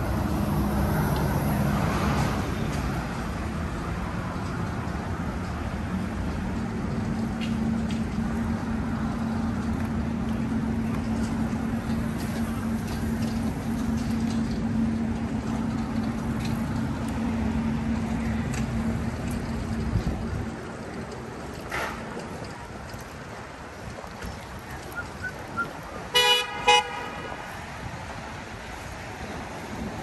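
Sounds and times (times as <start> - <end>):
passing vehicles: 0.0 - 30.0.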